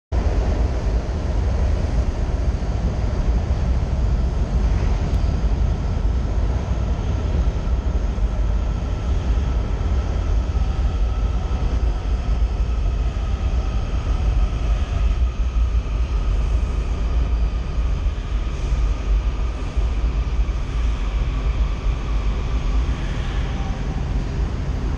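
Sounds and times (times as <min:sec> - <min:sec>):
faint steady whine: 0:00.2 - 0:24.9
subway train rumbling past: 0:00.2 - 0:24.9.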